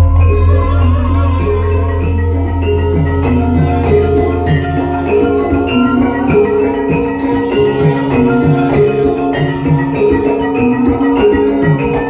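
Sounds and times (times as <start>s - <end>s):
metallophones and kettle gongs ringing: 0.0s - 12.0s.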